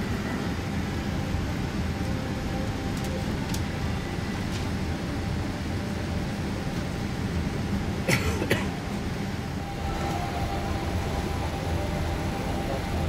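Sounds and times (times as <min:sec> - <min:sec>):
aircraft cabin engine rumble: 0:00.0 - 0:13.0
faint steady whine: 0:00.0 - 0:13.0.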